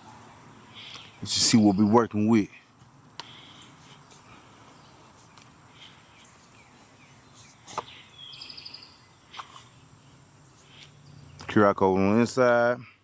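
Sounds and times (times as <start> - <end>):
cricket chorus: 0.0 - 2.0, 3.2 - 13.0.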